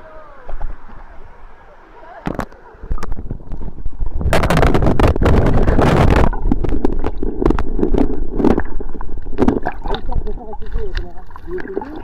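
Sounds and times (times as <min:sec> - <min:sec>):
muffled underwater rumble: 0:00.0 - 0:12.0
knocks underwater: 0:02.3 - 0:12.0.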